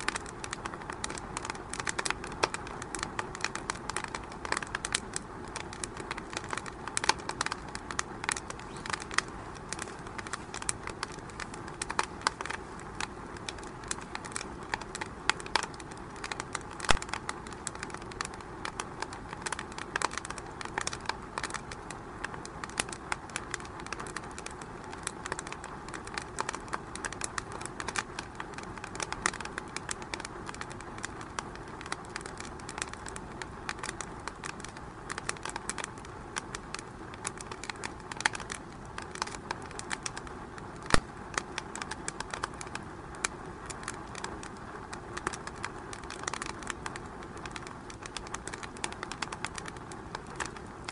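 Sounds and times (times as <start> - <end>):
soft steady fire hiss: 0.0 - 50.9
wood fire crackling: 0.0 - 50.9.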